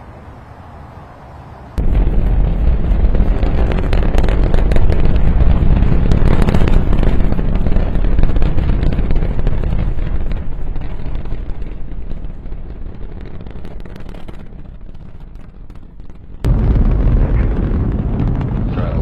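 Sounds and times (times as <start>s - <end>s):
rocket engines roaring: 0.0s - 19.0s.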